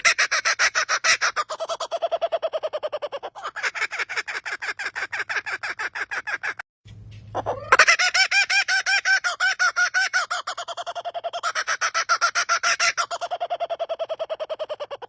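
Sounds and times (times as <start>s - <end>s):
bird calling in fast repeated notes: 0.0s - 15.0s.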